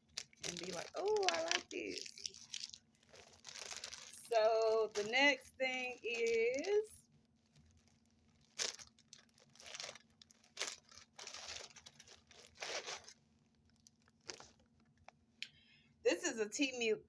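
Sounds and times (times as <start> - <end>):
packaging tearing and crinkling: 0.0 - 14.8.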